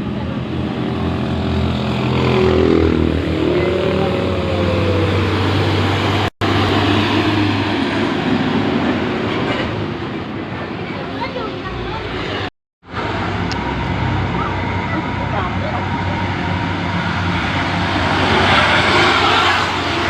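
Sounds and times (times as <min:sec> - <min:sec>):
heavy truck engine labouring: 0:00.0 - 0:20.0.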